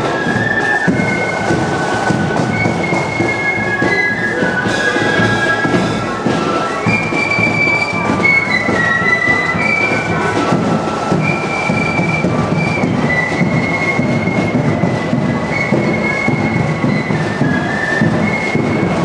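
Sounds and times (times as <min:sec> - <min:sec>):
drums beating: 0:00.0 - 0:19.0
shrill flutes playing: 0:00.0 - 0:19.0.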